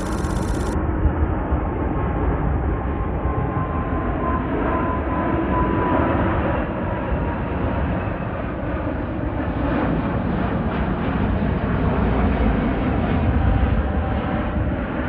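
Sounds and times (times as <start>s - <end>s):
jet airliner engines: 0.0s - 15.0s.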